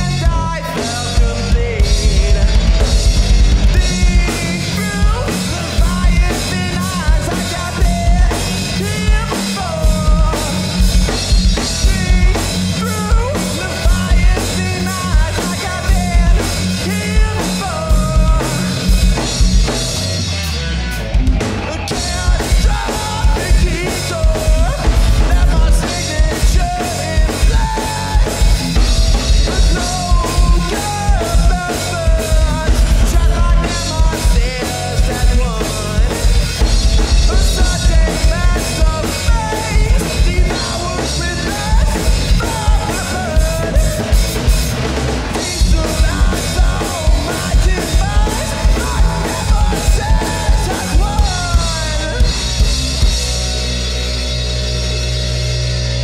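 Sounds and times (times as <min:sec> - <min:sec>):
pounding drum kit: 0:00.0 - 0:56.0
rock band playing: 0:00.0 - 0:56.0.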